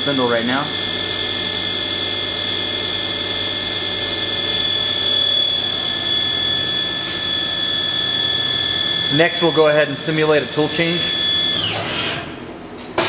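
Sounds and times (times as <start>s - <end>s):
machine spindle high-pitched whine: 0.0s - 12.5s.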